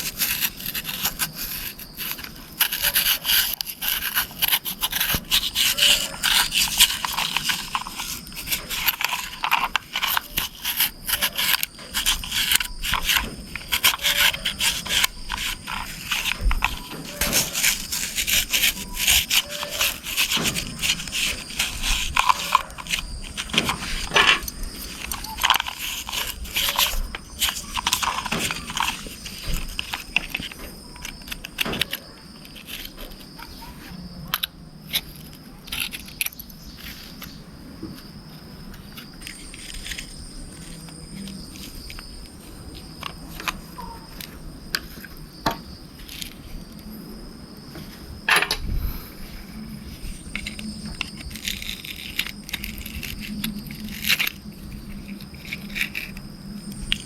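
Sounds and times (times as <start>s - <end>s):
scratching and scraping on toy car: 0.0s - 47.0s, 49.2s - 57.0s.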